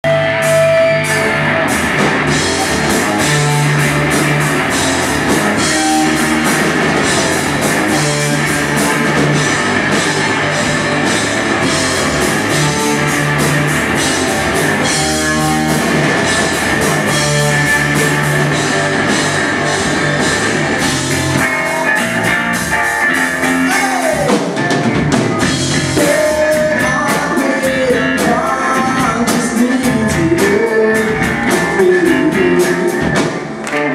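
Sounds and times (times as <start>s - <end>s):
bass guitar: 0.0s - 33.9s
drum kit: 0.0s - 33.9s
electric guitar: 0.0s - 33.9s.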